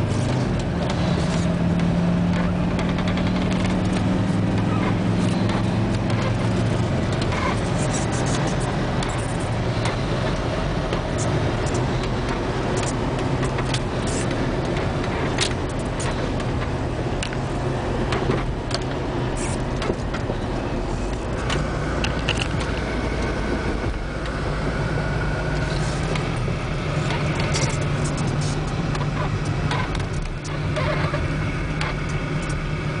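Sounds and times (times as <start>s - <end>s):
diesel engine running: 0.0s - 33.0s
cab clicks and rattles: 0.1s - 24.4s, 25.4s - 32.6s.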